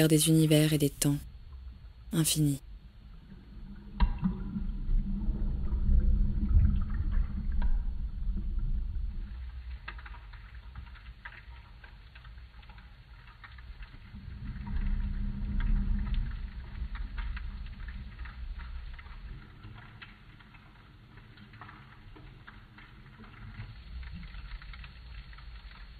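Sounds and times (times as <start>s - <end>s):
low underwater rumble: 2.7s - 25.9s
bubbles clicking and crackling: 3.2s - 25.9s.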